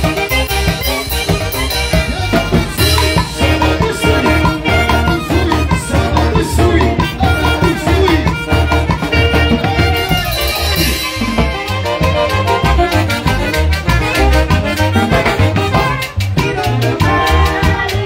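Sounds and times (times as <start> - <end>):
dance band with saxophones: 0.0 - 18.0
steady drum beat: 0.0 - 18.0.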